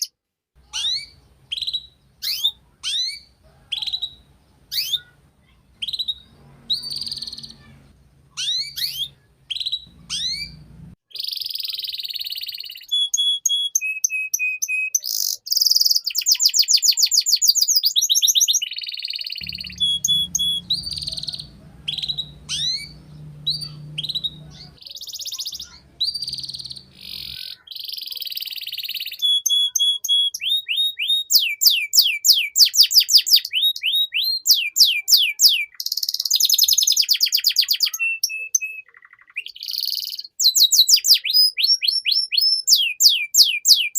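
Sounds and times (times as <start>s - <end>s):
canary singing: 0.0s - 43.9s.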